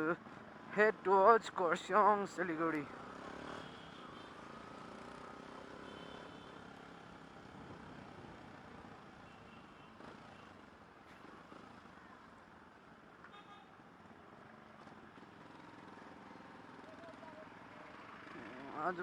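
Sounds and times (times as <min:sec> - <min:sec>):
faint road traffic: 0:00.0 - 0:19.0.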